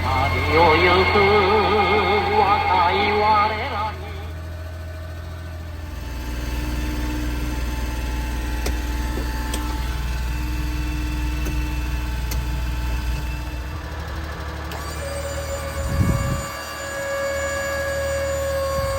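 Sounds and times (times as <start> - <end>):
small truck engine running: 0.0 - 18.9.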